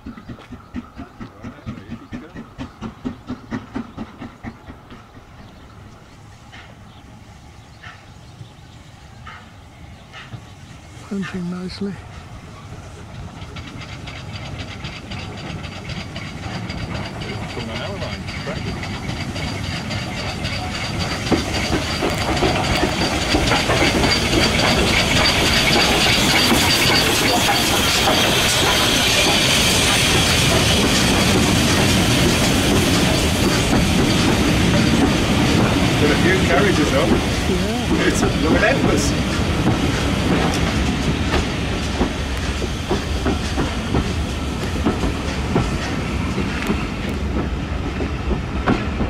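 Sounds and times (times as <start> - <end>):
train wheels clicking over rail joints: 0.0 - 10.9, 12.1 - 49.0
steam locomotive chuffing: 0.0 - 49.0.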